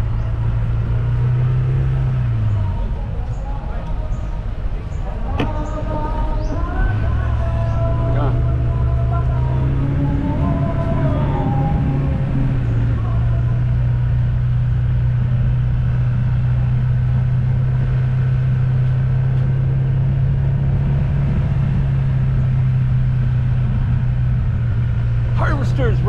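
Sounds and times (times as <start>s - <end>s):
road rumble: 0.0s - 26.0s
vehicle engine drone: 0.0s - 26.0s.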